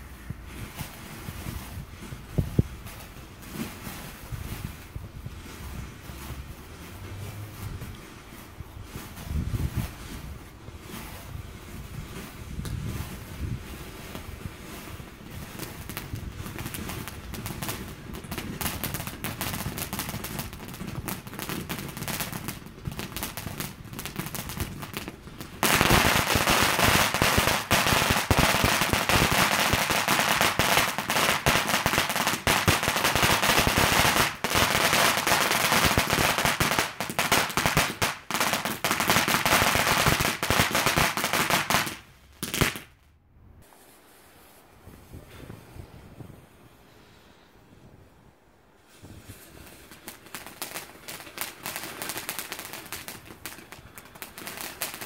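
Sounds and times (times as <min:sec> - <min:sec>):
firework fountain hissing crackle: 0:00.0 - 0:43.0, 0:43.6 - 0:55.0.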